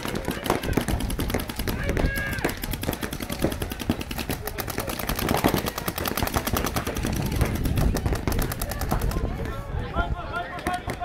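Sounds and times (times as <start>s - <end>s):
paintball markers firing rapidly: 0.0s - 9.6s.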